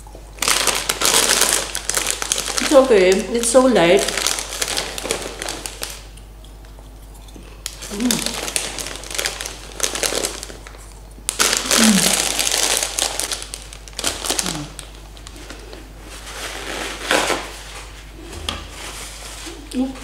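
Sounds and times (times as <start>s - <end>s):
paper tissue rustling: 0.4s - 6.1s, 7.7s - 20.0s
plastic bag crinkling: 0.4s - 6.1s, 7.6s - 19.6s.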